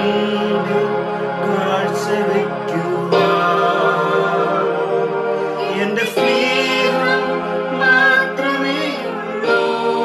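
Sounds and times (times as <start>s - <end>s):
man singing worship song: 0.0s - 10.0s
steady held accompaniment: 0.0s - 10.0s.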